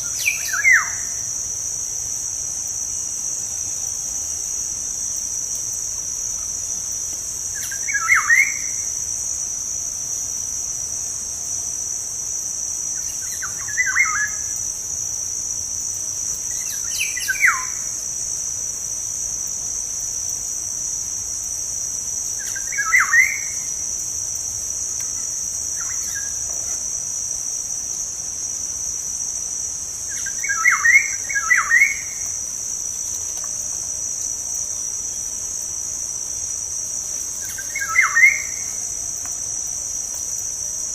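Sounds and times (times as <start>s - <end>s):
high cricket trill: 0.0s - 40.9s.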